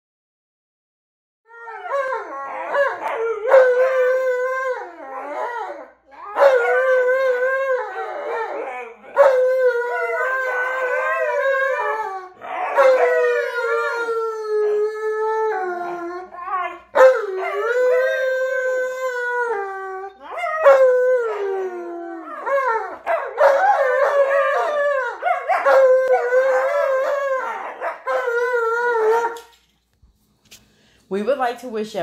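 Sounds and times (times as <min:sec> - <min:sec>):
dog howling: 0:01.5 - 0:29.5.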